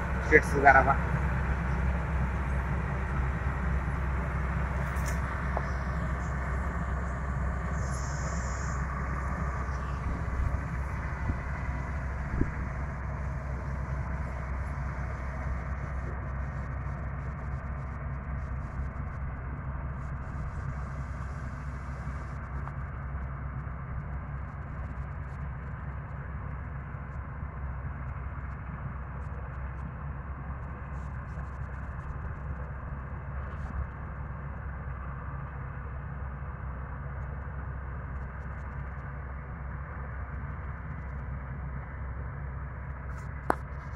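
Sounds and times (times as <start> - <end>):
combine harvester engine drone: 0.0 - 43.9.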